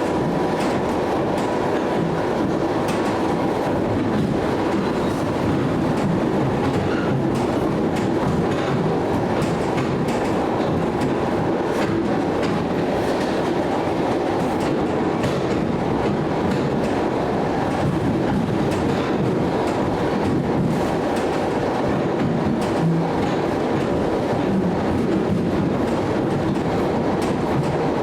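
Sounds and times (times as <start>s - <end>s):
train rumbling along track: 0.0s - 28.0s.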